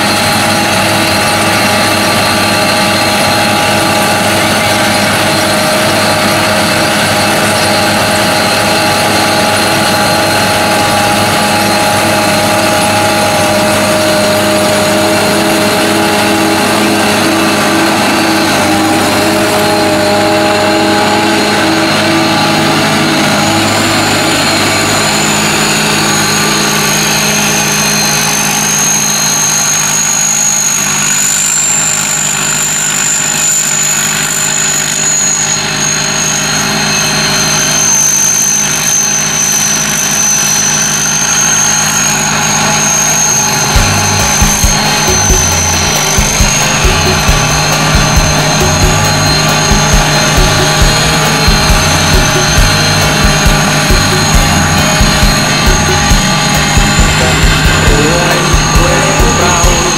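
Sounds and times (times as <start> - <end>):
combine harvester running: 0.0 - 59.9
high steady whine: 0.0 - 59.9.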